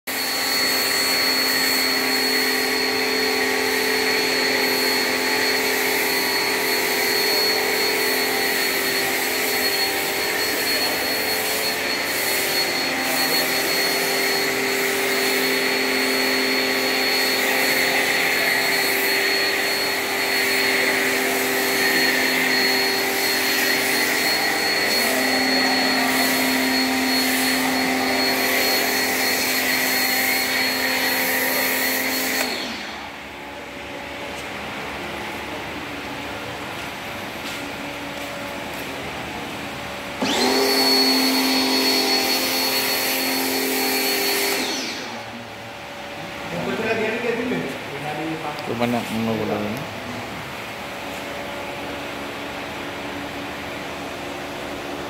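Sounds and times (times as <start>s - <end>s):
pressure washer motor hum: 0.1s - 47.8s.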